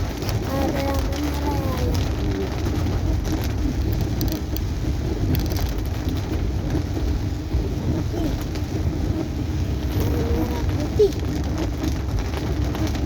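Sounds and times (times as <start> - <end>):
rain on car: 0.0 - 13.0
road and engine rumble: 0.0 - 13.0.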